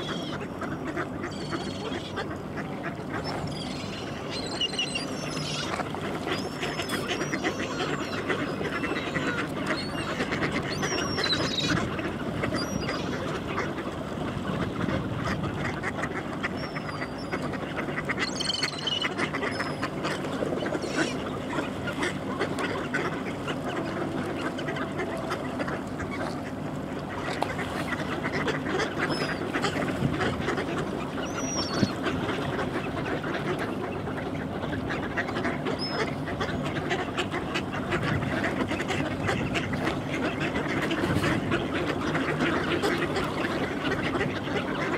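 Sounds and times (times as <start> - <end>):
ducks quacking: 0.0 - 44.9.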